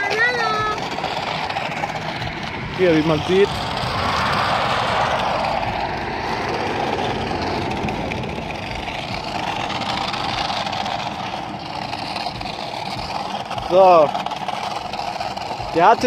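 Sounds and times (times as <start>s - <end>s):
motorway traffic rushing: 0.0s - 16.0s.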